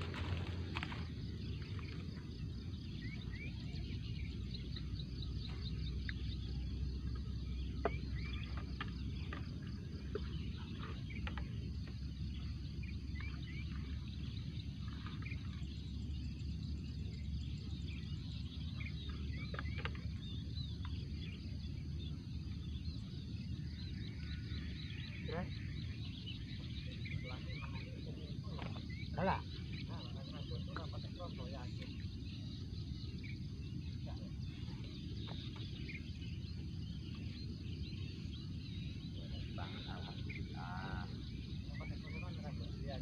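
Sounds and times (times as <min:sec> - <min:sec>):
bird chirps: 0:00.0 - 0:43.0
low outdoor rumble: 0:00.0 - 0:43.0.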